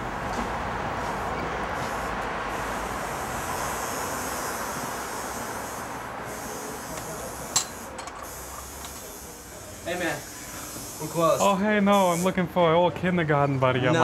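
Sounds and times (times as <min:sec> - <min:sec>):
steady background hiss: 0:00.9 - 0:12.8.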